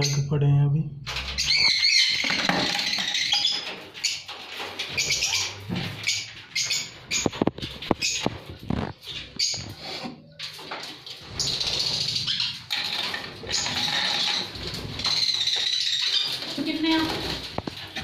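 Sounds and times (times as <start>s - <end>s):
lovebirds chattering and screeching: 0.0s - 0.4s, 1.1s - 18.0s.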